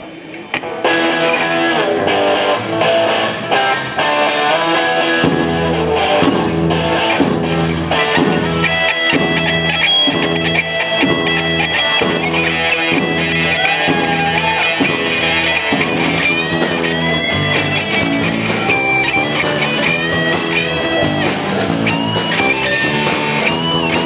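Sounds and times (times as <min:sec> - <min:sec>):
bass guitar: 0:00.0 - 0:24.0
electric guitar chords strummed: 0:00.4 - 0:24.0.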